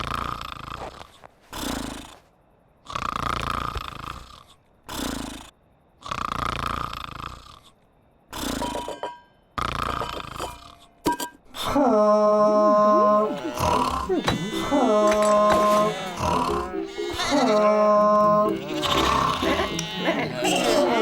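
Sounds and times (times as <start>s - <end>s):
cartoon snoring: 0.0s - 2.2s, 2.8s - 8.9s, 9.6s - 10.8s, 11.6s - 21.0s.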